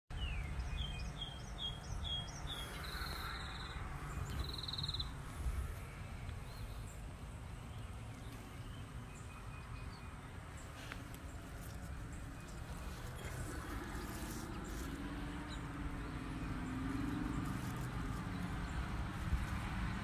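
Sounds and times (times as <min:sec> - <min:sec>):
songbird chirps and trills: 0:00.1 - 0:20.0
steady low rumble: 0:00.4 - 0:20.0.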